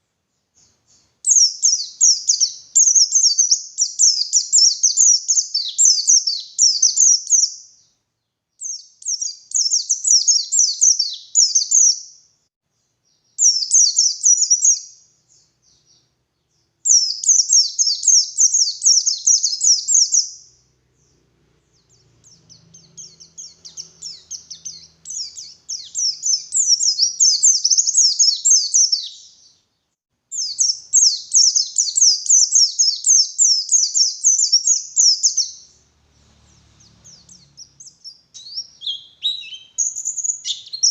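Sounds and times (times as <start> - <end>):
bird twittering song: 0.3 - 40.9.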